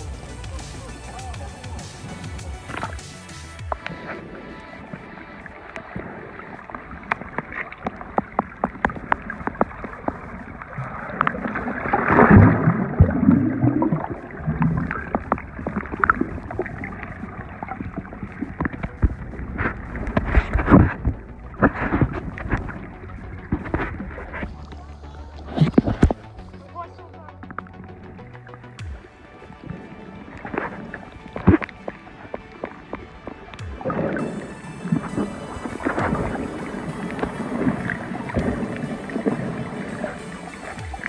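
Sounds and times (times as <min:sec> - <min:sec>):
muffled underwater sloshing: 0:00.0 - 0:41.0
water bubbling: 0:00.0 - 0:41.0.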